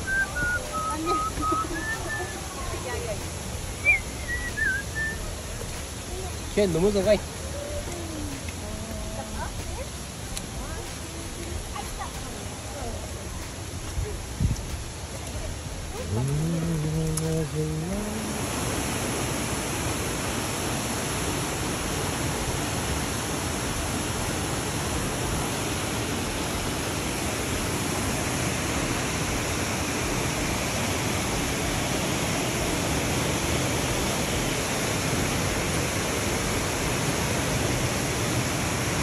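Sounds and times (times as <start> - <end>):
water rushing through gorge: 0.0 - 39.0.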